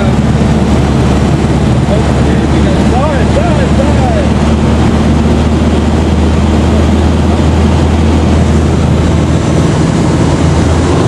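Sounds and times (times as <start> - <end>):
propeller plane engine in flight: 0.0 - 11.0
rushing air: 0.0 - 11.0.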